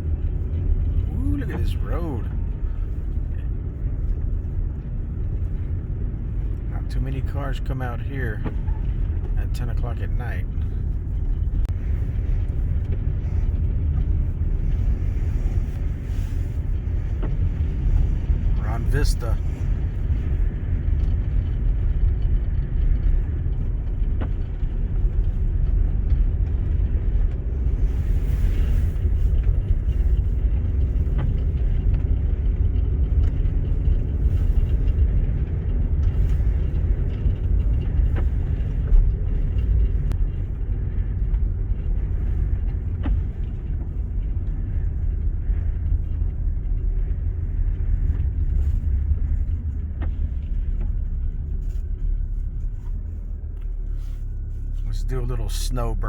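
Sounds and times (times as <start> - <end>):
car driving on snow: 0.0 - 56.0.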